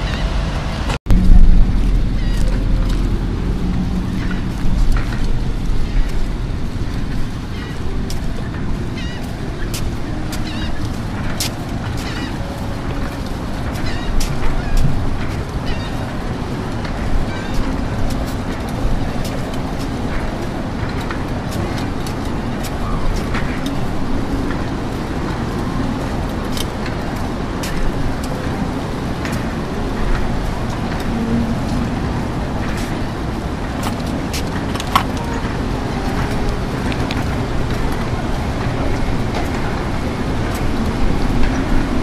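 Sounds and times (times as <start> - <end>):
wind rumbling on microphone: 0.0 - 42.0.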